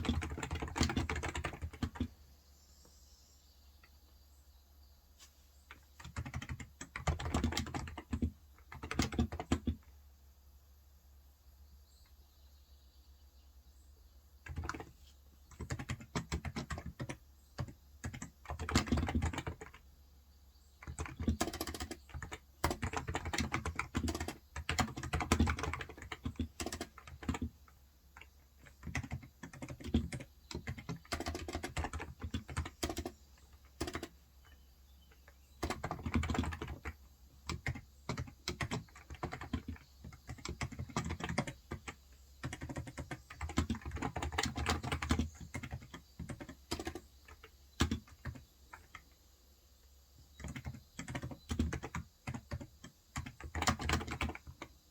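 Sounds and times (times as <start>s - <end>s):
keyboard typing: 0.0s - 2.1s, 5.7s - 9.9s, 14.4s - 19.8s, 20.8s - 49.1s, 50.4s - 54.9s.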